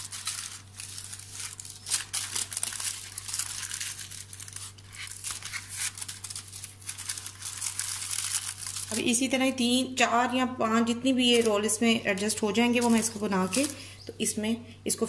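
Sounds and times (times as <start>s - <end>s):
baking paper crinkling: 0.0s - 9.5s, 11.0s - 14.0s.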